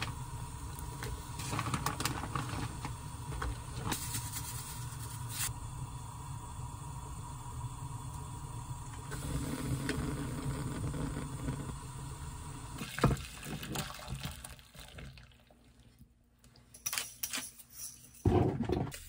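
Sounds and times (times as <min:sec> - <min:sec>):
broth bubbling in a pot: 0:00.0 - 0:16.2.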